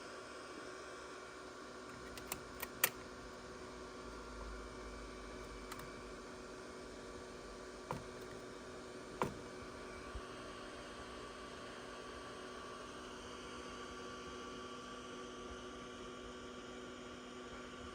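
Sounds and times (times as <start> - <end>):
laptop hum: 0.0 - 17.9.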